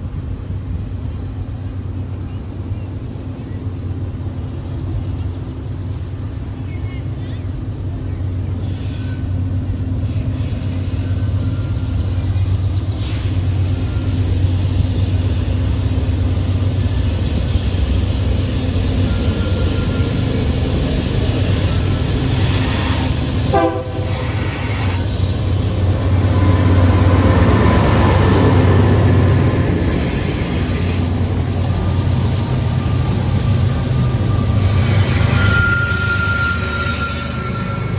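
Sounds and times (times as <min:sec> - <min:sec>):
locomotive engine rumble: 0:00.1 - 0:37.9
wheels squealing on rail: 0:06.7 - 0:37.9.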